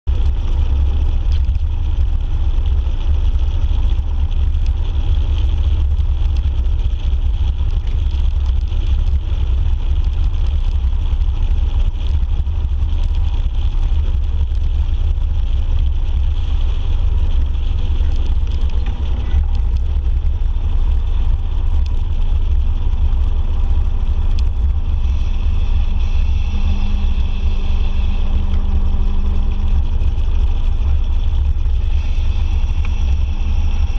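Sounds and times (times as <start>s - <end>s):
motorcycle engine drone: 0.0s - 33.9s
wind rumble on microphone: 0.0s - 33.9s.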